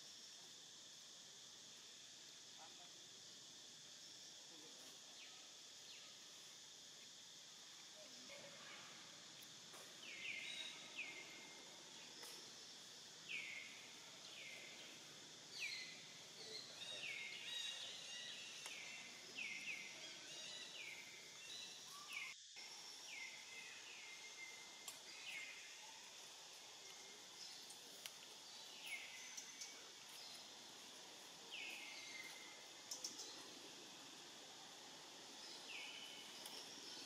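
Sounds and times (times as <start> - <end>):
insect hiss: 0.0 - 37.0.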